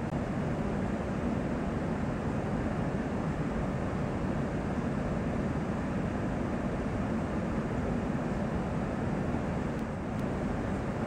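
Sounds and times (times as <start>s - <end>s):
airliner cabin engine hum: 0.0s - 11.0s.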